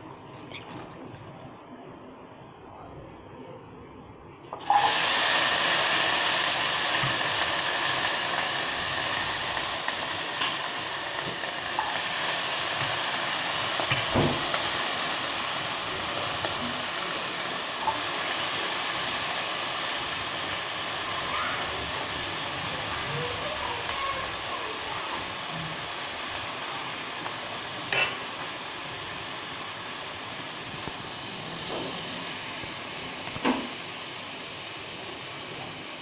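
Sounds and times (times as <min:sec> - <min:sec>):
vegetables sizzling in hot oil: 0:04.6 - 0:36.0.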